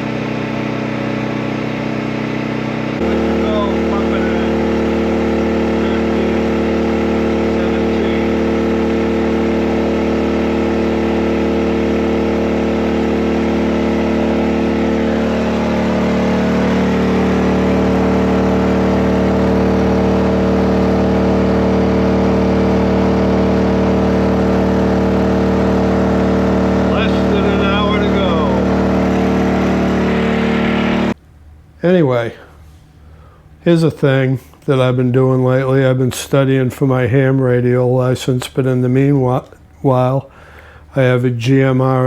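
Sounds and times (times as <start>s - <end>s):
generator engine running: 0.0s - 42.0s.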